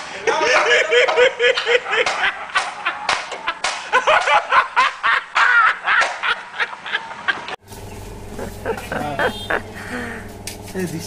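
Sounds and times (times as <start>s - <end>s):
man laughing hard: 0.1s - 7.6s, 8.4s - 10.2s.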